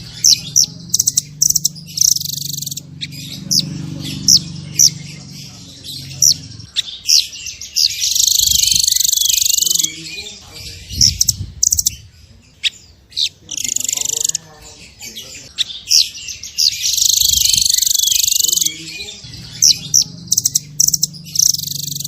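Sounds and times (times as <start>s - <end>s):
buzzy bird trill: 0.0s - 22.0s
songbirds chirping: 0.0s - 22.0s.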